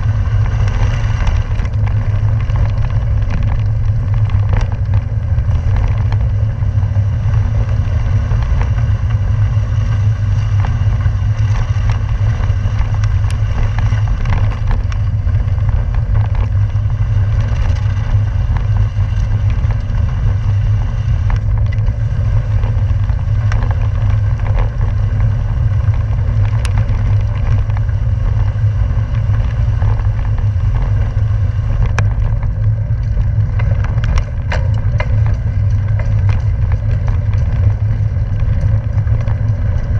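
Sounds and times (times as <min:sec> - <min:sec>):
bicycle tyres rolling on gravel: 0:00.0 - 0:39.9
gravel clicks and rattles: 0:00.0 - 0:39.9
wind buffeting microphone: 0:00.0 - 0:39.9.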